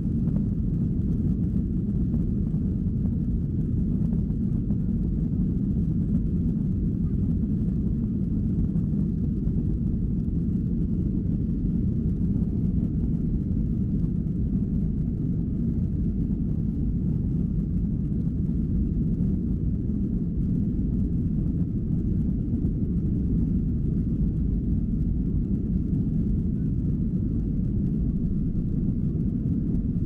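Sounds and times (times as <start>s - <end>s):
jet engine rumble in cabin: 0.0s - 30.0s.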